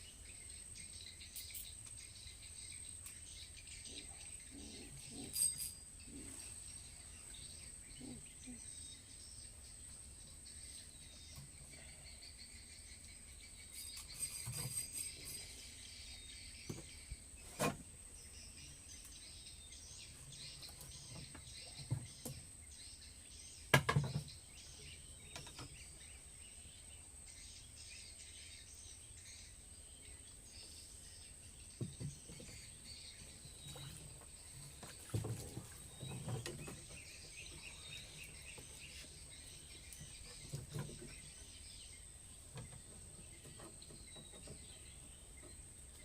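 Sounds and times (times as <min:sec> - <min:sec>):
bird chirps: 0:00.0 - 0:46.0.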